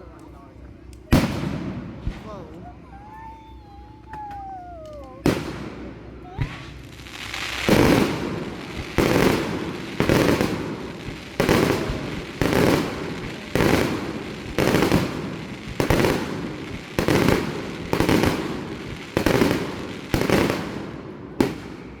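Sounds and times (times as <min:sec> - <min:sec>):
fireworks booming: 0:01.1 - 0:02.6, 0:05.2 - 0:22.0.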